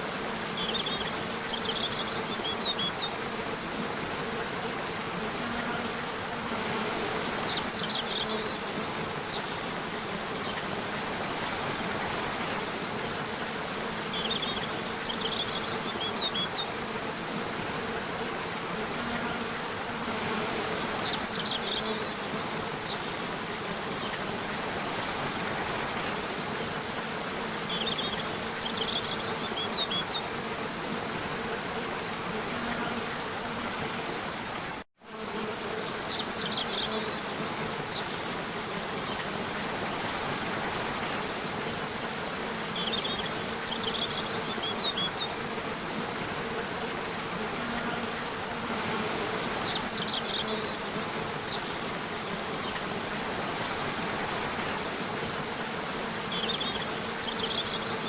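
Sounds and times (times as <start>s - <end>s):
constant hiss: 0.0s - 58.0s
insects buzzing: 0.0s - 58.0s.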